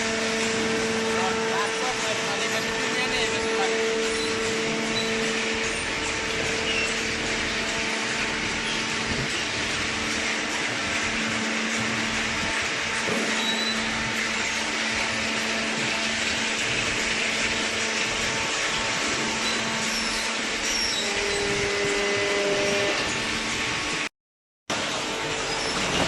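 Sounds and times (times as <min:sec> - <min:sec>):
motor running with low hum: 0:00.0 - 0:24.1, 0:24.7 - 0:26.0.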